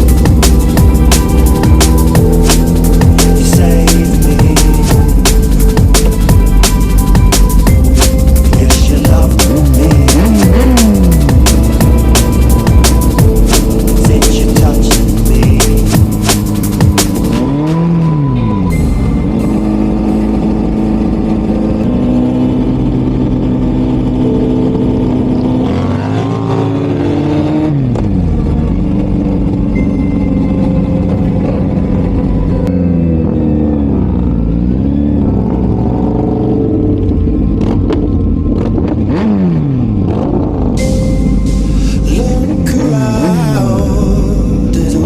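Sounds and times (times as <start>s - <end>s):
motorcycle engines revving: 0.0s - 40.8s.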